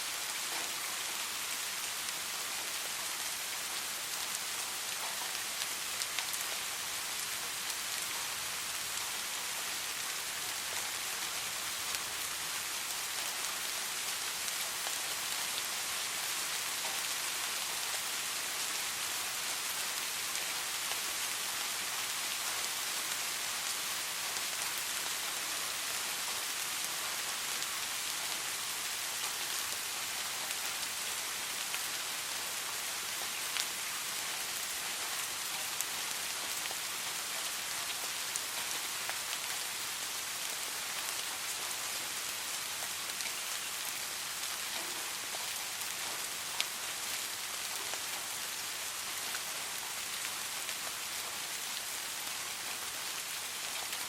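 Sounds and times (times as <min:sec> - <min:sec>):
soft rain hissing: 0:00.0 - 0:54.0.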